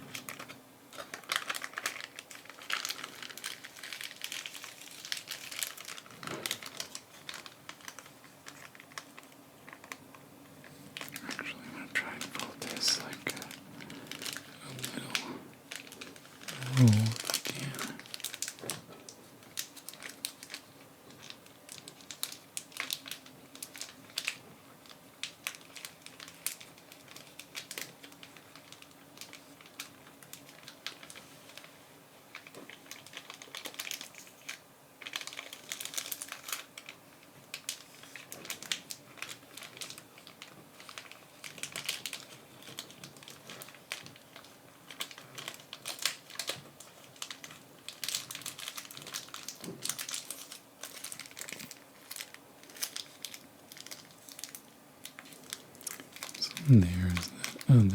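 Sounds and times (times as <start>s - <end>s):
foil package crinkling: 0.0s - 57.6s.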